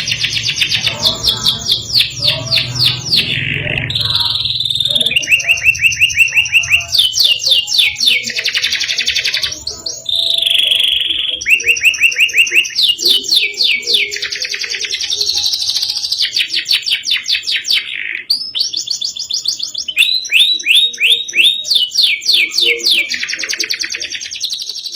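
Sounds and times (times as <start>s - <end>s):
canary singing trills: 0.0s - 24.9s.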